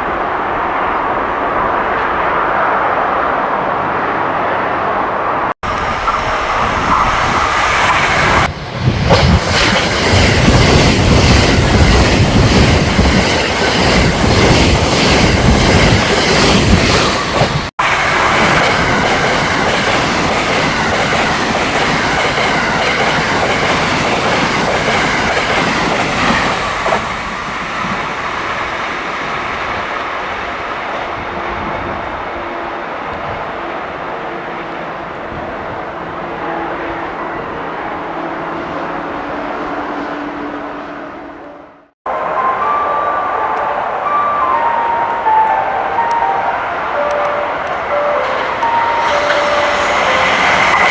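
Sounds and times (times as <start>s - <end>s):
express train passing at speed: 0.0s - 50.9s.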